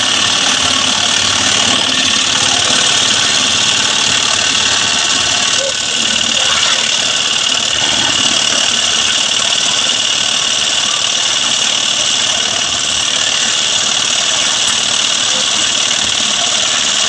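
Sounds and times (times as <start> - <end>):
engine running with rattle: 0.0 - 17.0.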